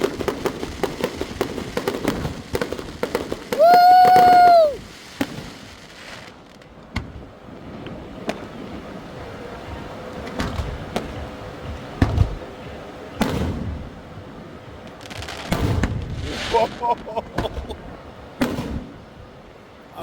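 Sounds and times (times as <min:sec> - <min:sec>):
fireworks booms and cracks: 0:00.0 - 0:12.5, 0:13.2 - 0:19.0.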